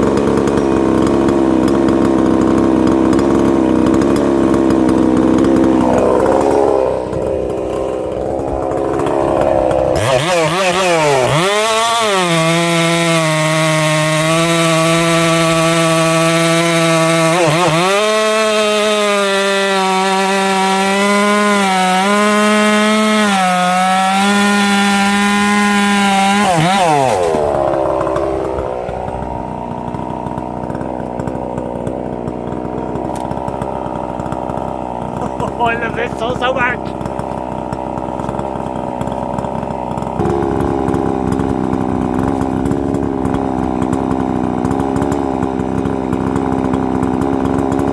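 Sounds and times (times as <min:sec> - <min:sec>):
chainsaw cutting log: 0:00.0 - 0:47.9.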